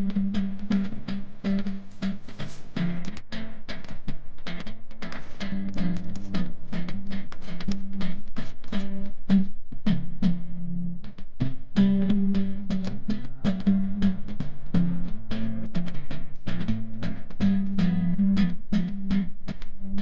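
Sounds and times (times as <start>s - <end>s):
instrumental music with guitar and drums: 0.0s - 20.0s.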